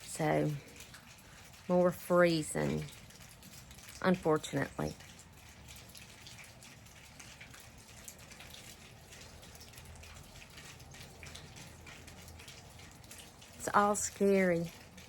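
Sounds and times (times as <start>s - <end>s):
water dripping off trees: 0.0s - 15.0s.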